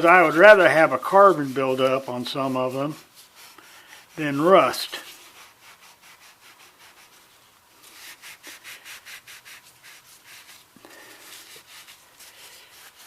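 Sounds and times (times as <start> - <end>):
hand scrubbing metal: 0.0 - 13.0.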